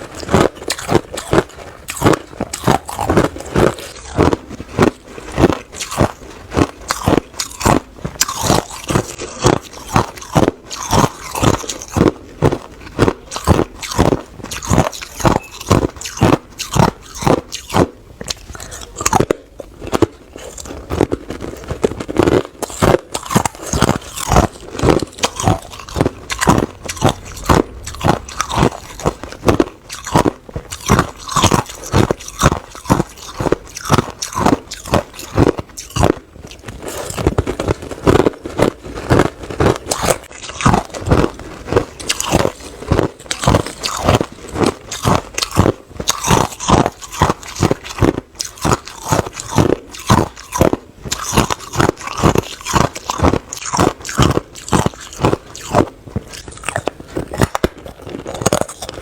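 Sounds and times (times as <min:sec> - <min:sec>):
chewing hard ice: 0:00.0 - 0:59.0.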